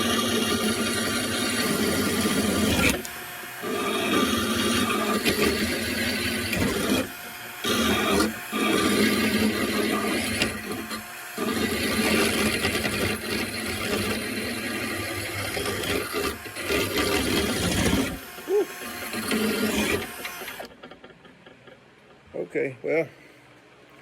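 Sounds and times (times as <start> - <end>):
drill grinding stone on blade: 0.0 - 20.8.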